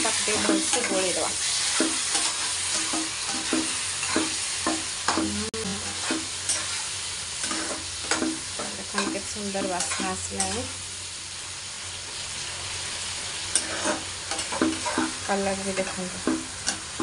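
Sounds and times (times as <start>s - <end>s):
spatula scraping a pan: 0.0s - 10.7s, 13.4s - 17.0s
vegetables sizzling in a wok: 0.0s - 17.0s.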